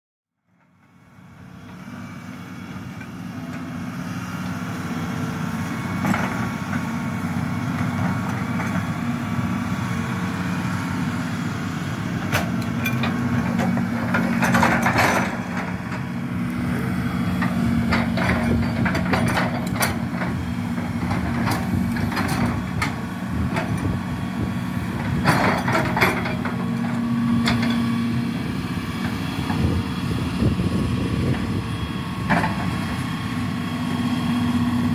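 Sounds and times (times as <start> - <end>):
excavator diesel engine running: 0.6 - 34.9.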